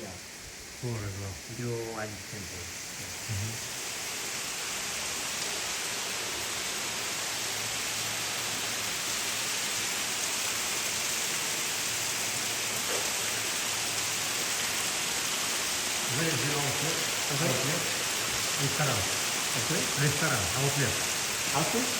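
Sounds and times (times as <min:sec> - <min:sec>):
running water hiss: 0:00.0 - 0:21.9.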